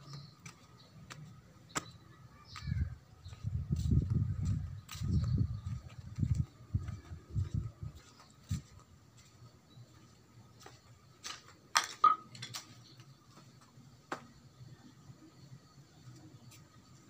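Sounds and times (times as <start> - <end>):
footsteps on stone paving: 0.0 - 14.4.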